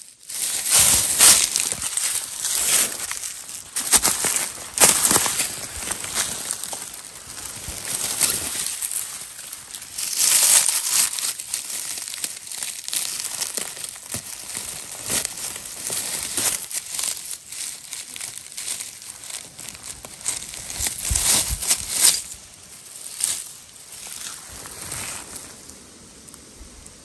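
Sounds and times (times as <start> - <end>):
footsteps through dry leaves: 0.0 - 26.0.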